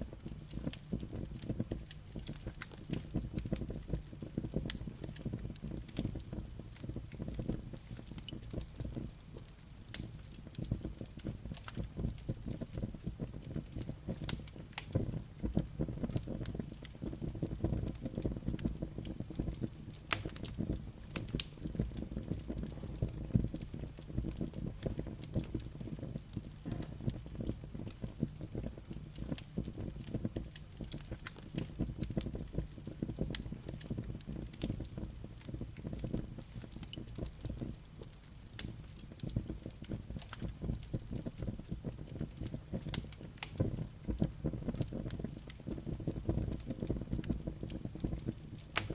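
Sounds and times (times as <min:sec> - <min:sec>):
fire flames rumbling: 0:00.0 - 0:48.9
logs crackling and popping: 0:00.0 - 0:48.9.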